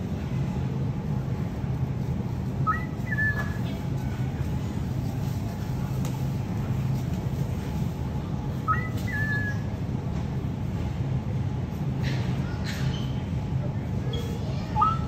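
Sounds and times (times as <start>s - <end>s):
store background hum: 0.0s - 15.0s.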